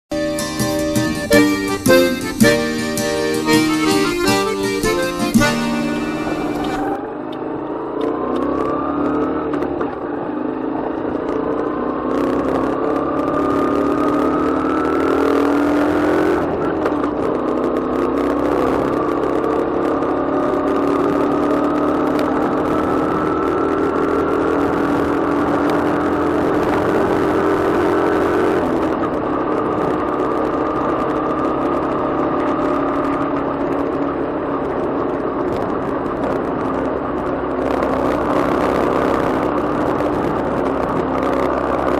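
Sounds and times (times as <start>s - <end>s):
motorcycle engine running: 0.1s - 41.9s.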